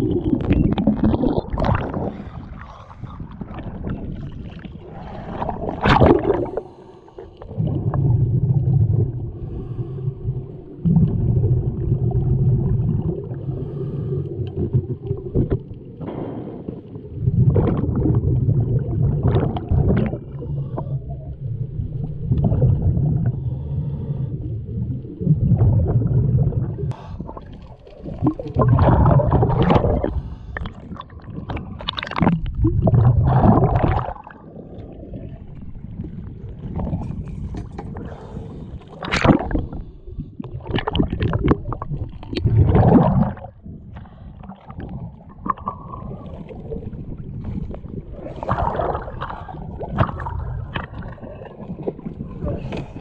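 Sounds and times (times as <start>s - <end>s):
gurgling bubble bursts: 0.0s - 13.8s, 14.4s - 23.6s, 24.4s - 38.3s, 38.9s - 53.0s
regulator exhale bubbles rumbling: 0.0s - 53.0s.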